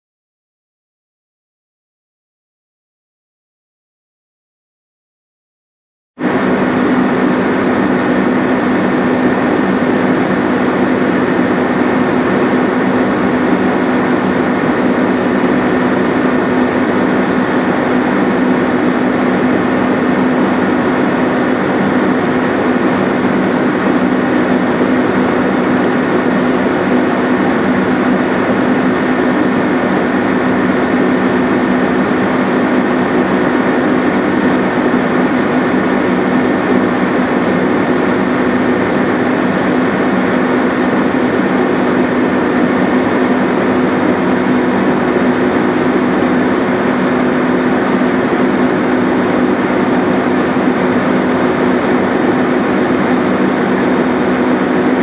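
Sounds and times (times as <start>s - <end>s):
boat engine humming: 6.2s - 55.0s.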